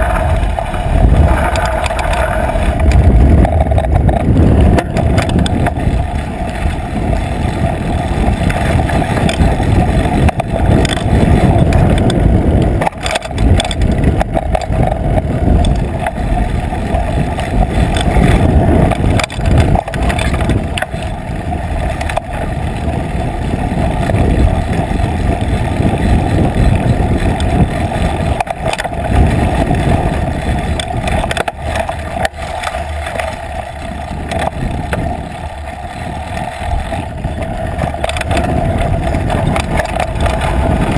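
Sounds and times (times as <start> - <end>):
bike knocking and rattling: 0.0 - 40.9
wind and tyres rumbling: 0.0 - 40.9.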